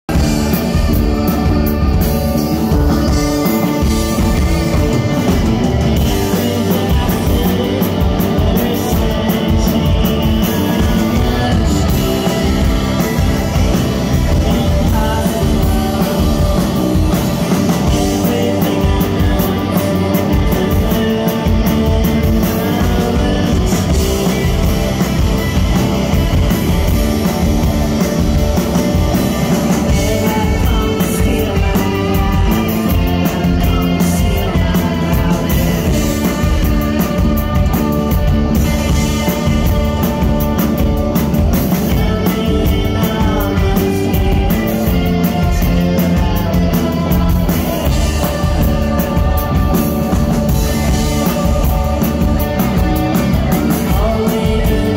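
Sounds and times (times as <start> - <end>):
amplified guitars: 0.0 - 54.9
drums: 0.0 - 54.9
person singing: 0.0 - 54.9.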